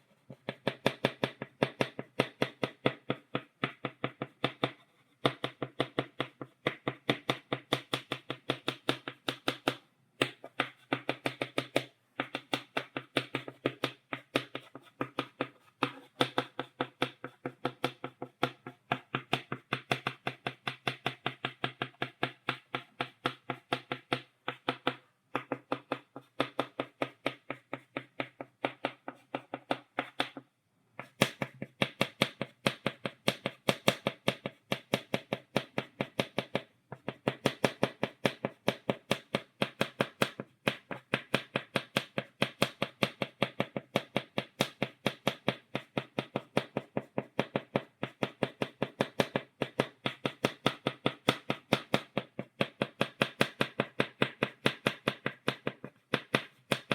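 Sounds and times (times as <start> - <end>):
chalk tapping on blackboard: 0.0 - 56.9.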